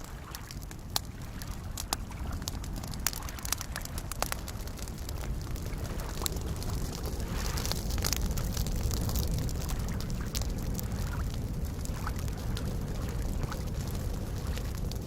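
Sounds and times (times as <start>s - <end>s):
campfire crackling and popping: 0.0s - 15.0s
small waves lapping: 0.0s - 15.0s.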